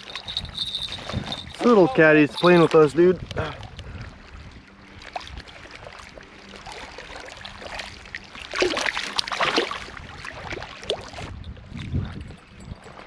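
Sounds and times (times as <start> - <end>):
shallow river water splashing: 0.0 - 13.0.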